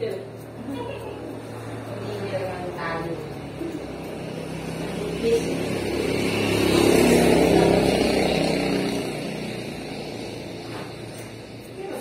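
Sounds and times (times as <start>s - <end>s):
vehicle driving past: 0.1s - 12.0s.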